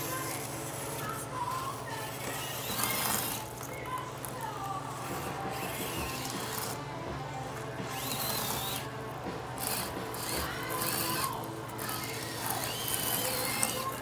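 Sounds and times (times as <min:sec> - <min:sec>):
small electric motor whining: 0:00.0 - 0:14.0.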